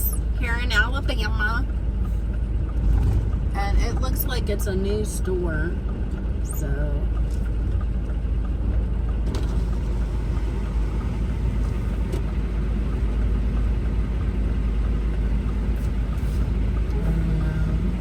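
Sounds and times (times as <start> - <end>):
low steady hum: 0.0 - 18.0
truck engine rumble: 0.0 - 18.0.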